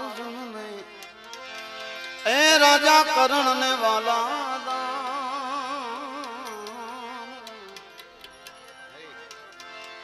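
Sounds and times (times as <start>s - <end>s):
harmonium chords: 0.0s - 10.0s.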